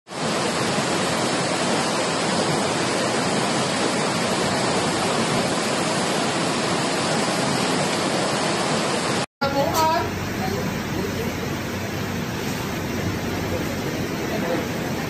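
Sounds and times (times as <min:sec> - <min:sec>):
floodwater rushing: 0:00.1 - 0:15.0.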